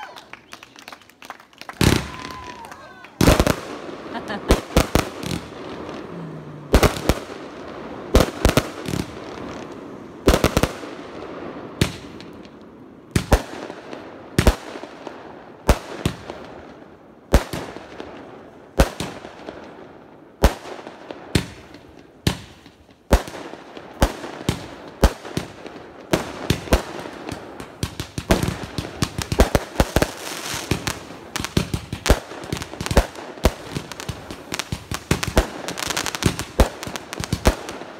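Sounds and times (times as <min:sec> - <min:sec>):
firework bangs: 0:01.7 - 0:37.9.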